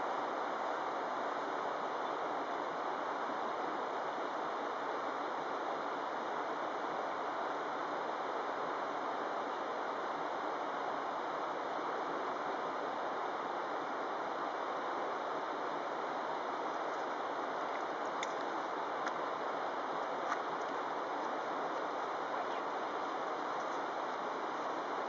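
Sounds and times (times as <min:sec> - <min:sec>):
river rushing over boulders: 0:00.2 - 0:25.0.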